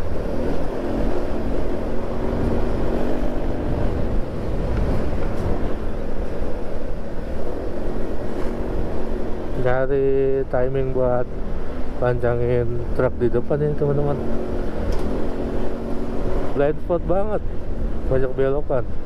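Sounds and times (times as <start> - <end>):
road rumble: 0.0 - 19.0
wind noise on microphone: 0.0 - 19.0.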